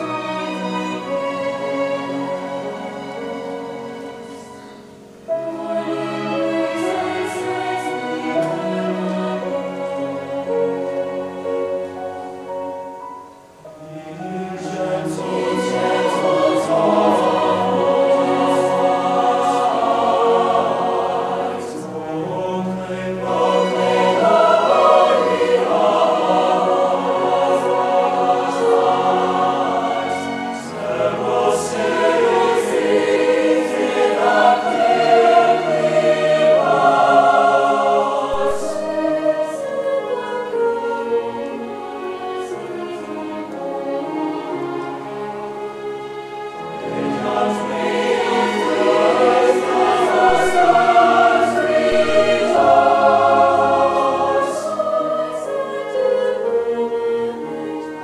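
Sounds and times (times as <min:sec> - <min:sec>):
mixed choir singing: 0:00.0 - 0:58.0
string orchestra: 0:00.0 - 0:58.0.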